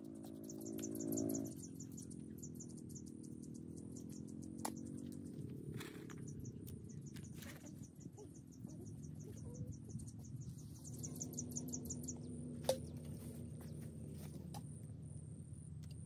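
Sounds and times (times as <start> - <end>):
insect chirping: 0.0 - 13.2
low steady rumble: 0.0 - 16.0.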